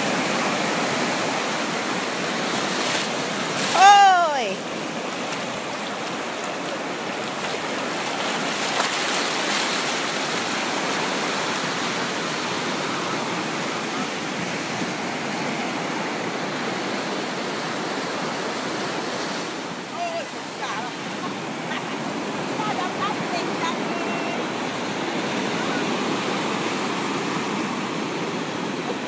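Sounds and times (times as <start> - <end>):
surf washing over sandy beach: 0.0 - 29.0.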